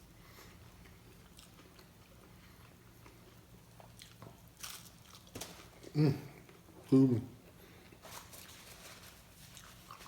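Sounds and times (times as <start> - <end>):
low room hum: 0.0 - 10.0
faint chewing: 0.2 - 10.0.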